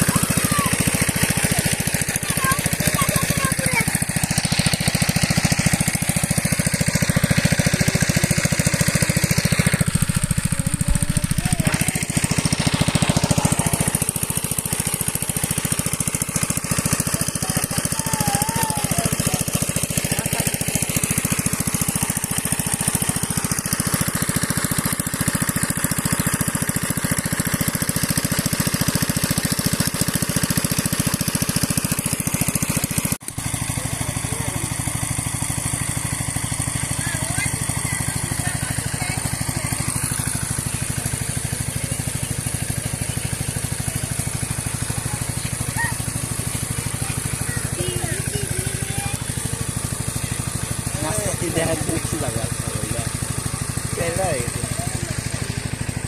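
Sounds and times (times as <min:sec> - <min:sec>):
diesel pump engine chugging: 0:00.0 - 0:56.0.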